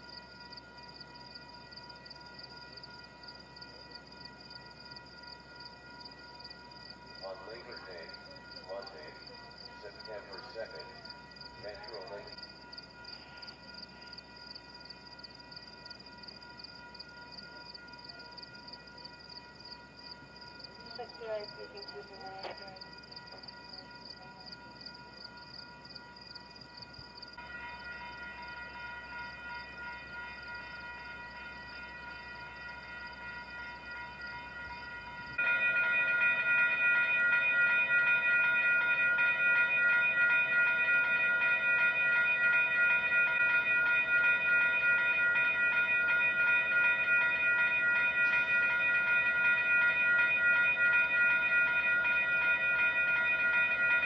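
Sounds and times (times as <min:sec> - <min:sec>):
railroad crossing bell ringing: 0:00.0 - 0:54.0.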